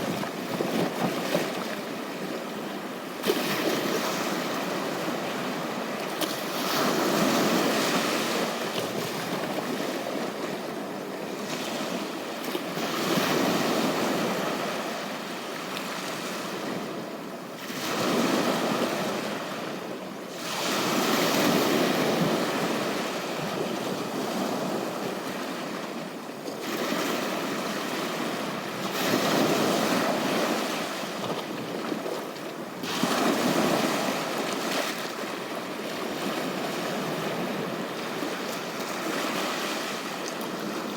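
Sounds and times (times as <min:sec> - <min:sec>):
ocean waves washing onto beach: 0:00.0 - 0:40.9.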